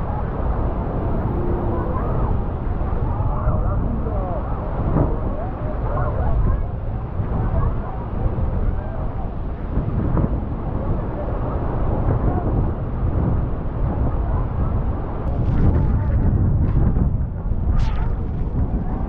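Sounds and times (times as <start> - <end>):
passengers' voices: 0.0 - 19.0
wind buffeting microphone: 0.0 - 19.0.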